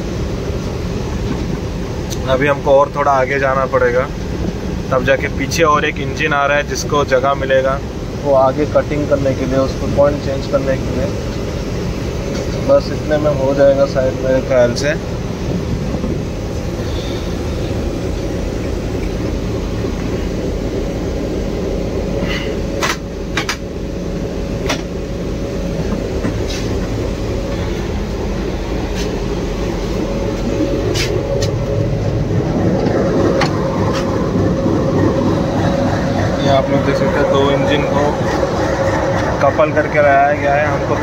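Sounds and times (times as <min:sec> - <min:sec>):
locomotive engine rumbling: 0:00.0 - 0:41.0.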